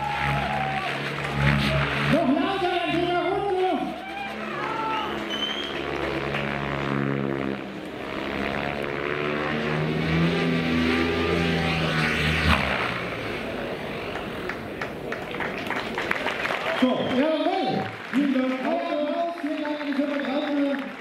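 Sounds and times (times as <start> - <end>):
helicopter rotor humming: 0.0 - 21.0.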